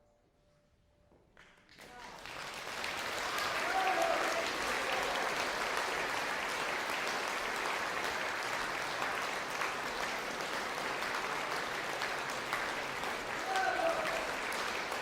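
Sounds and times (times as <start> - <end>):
audience applauding: 1.7 - 15.0.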